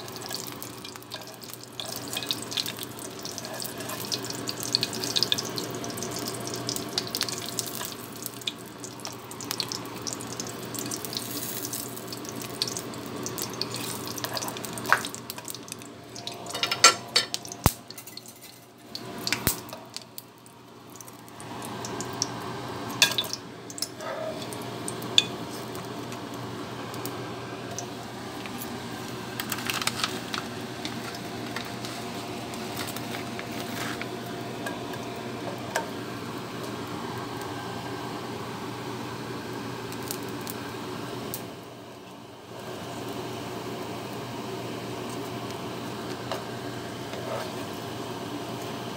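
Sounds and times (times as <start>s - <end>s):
food sizzling in hot oil: 0.0s - 37.7s, 38.6s - 41.6s.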